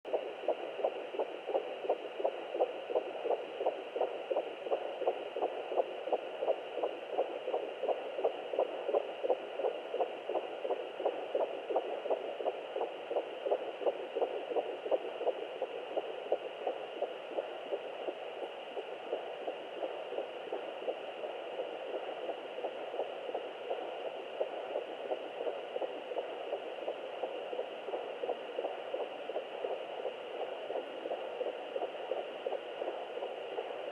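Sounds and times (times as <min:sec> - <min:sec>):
fast heartbeat pulses: 0:00.1 - 0:33.9.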